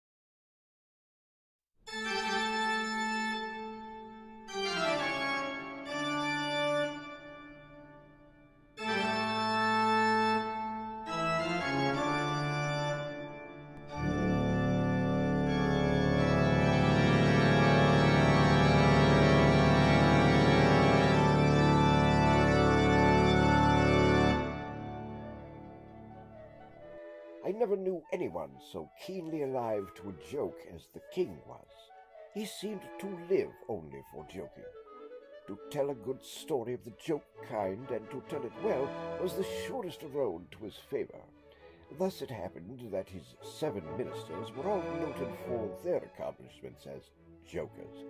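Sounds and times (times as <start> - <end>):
organ chords: 1.9 - 30.6, 35.7 - 48.0.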